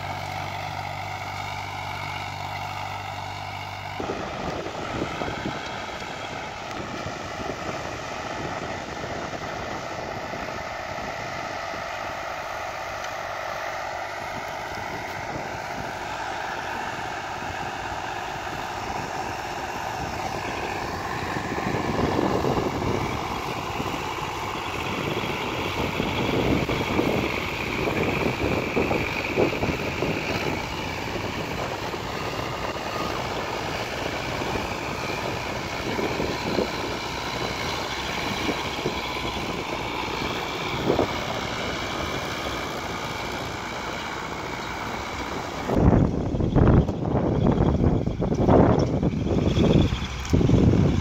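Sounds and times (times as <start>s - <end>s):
tractor engines under load: 0.0s - 51.0s.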